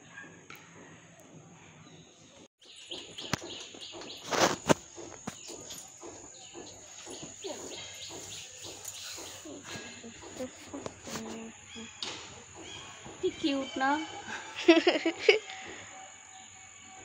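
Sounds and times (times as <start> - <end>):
birds chirping: 1.8 - 17.0
high insect drone: 2.6 - 17.0.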